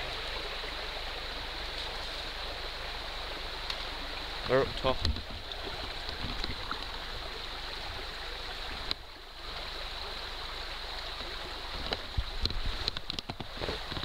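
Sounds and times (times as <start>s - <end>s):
flowing stream rushing: 0.0s - 14.0s.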